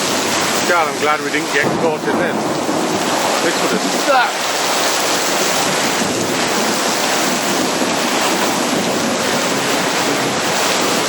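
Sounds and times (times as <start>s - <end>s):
torrential rain: 0.0s - 11.0s.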